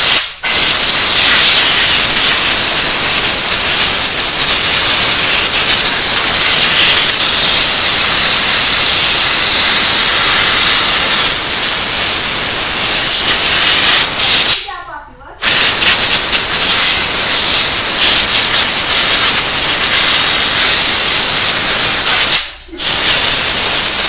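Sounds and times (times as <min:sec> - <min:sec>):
compressed-air spray gun hissing: 0:00.0 - 0:14.8, 0:15.4 - 0:24.0.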